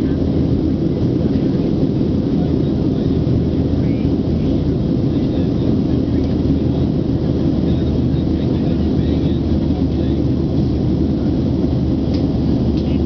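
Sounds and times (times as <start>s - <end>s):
airplane cabin engine noise: 0.0s - 13.0s.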